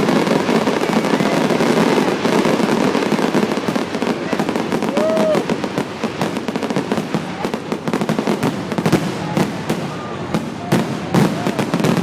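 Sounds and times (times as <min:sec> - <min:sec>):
fireworks booms: 0:00.0 - 0:12.0
fireworks crackling: 0:00.0 - 0:12.0.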